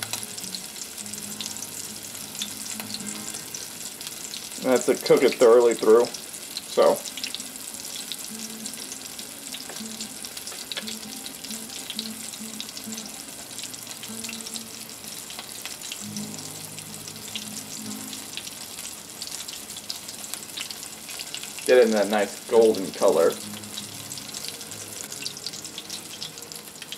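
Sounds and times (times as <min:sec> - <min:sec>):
chicken deep-frying in oil: 0:00.0 - 0:26.9.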